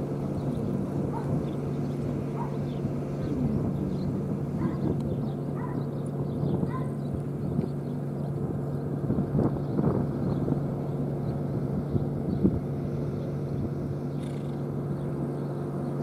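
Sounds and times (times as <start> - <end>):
light wind: 0.0 - 16.0
low hum: 0.0 - 16.0.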